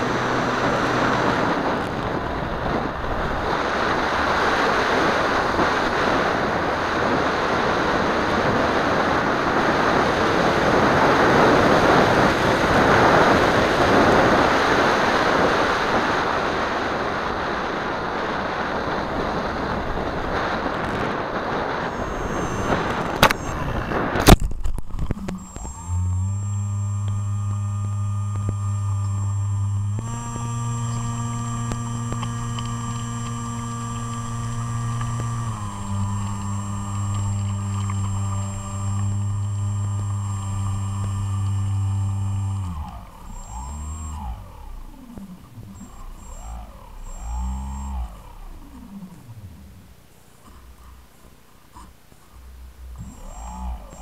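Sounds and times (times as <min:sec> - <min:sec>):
wind noise on microphone: 0:00.0 - 0:49.9
motor hum: 0:00.0 - 0:54.0.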